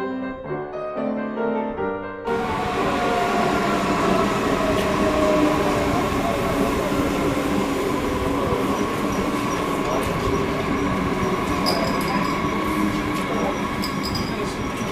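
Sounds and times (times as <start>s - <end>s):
train rumbling on rails: 2.3s - 14.9s.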